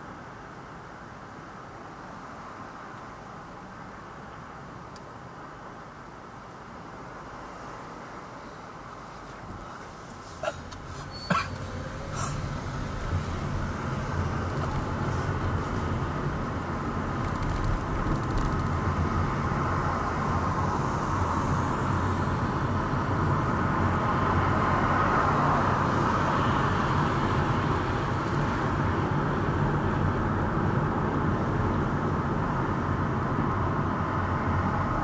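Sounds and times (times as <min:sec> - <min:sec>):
car engine low rumble: 0:00.0 - 0:35.0
road and tyre noise: 0:00.0 - 0:35.0.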